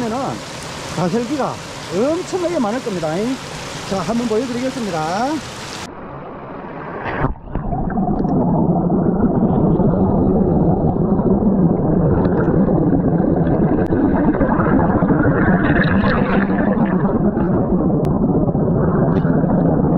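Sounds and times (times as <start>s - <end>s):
underwater churning water rush: 0.0s - 19.9s.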